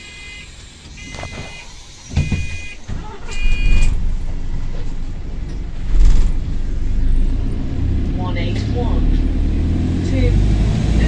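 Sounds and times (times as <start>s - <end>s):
bus diesel engine accelerating: 0.0s - 11.0s.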